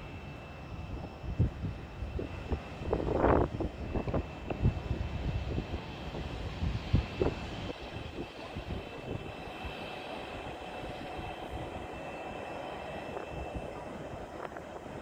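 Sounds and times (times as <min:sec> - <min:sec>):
distant jet engines whining: 0:00.0 - 0:15.0.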